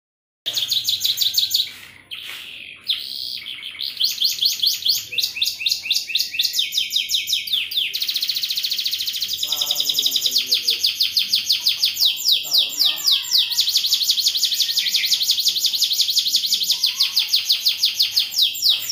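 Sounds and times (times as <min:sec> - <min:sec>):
canary singing trills: 0:00.5 - 0:18.9.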